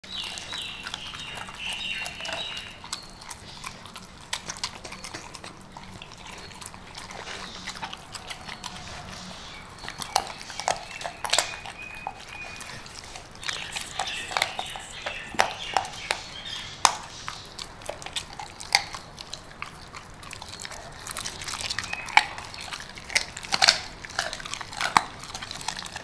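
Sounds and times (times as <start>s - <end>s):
dogs crunching bones: 0.0s - 26.0s.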